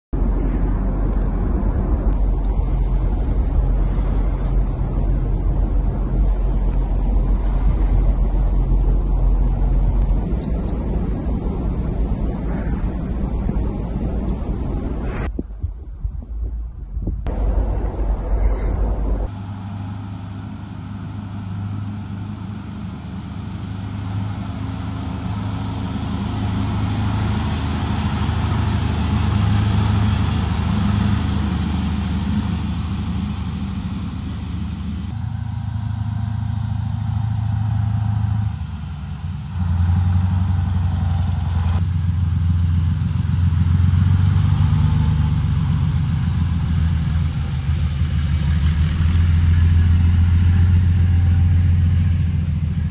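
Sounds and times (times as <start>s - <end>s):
heavy truck engines droning: 0.2s - 52.9s.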